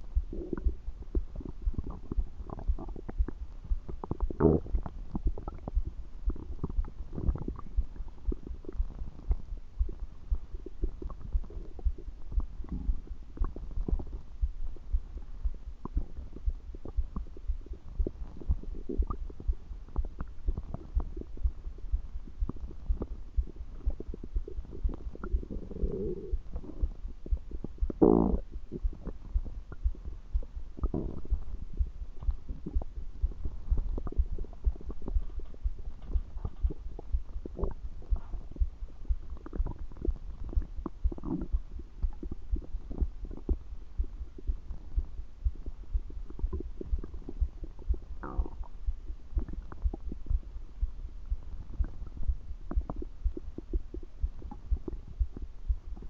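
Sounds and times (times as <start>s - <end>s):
stomach gurgling: 0.0s - 56.0s.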